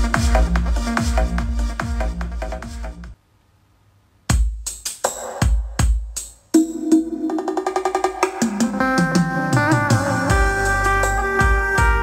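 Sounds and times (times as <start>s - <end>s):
music over speakers: 0.0s - 3.2s, 4.3s - 12.0s.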